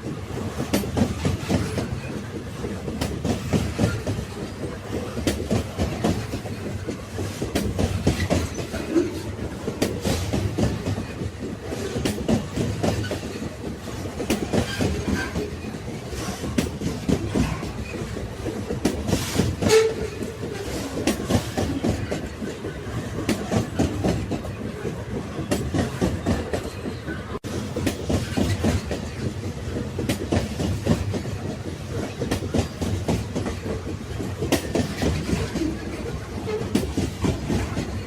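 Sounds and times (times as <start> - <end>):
railway wagons rumbling on track: 0.0 - 38.0
wheels clicking over rail joints: 0.0 - 38.0.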